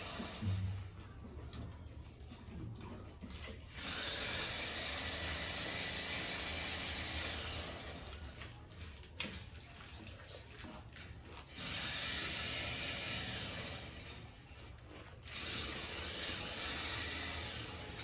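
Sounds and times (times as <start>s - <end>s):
chewing crunchy puffed rice: 0.0s - 18.0s.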